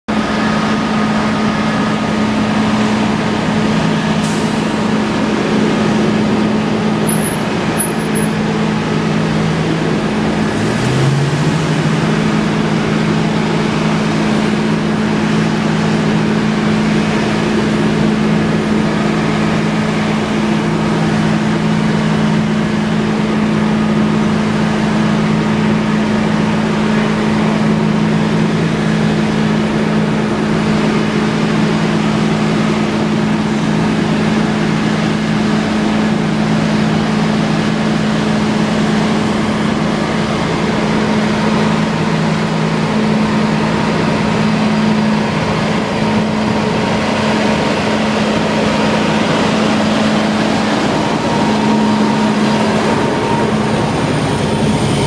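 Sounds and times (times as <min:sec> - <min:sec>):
fire truck engines droning: 0:00.1 - 0:55.0.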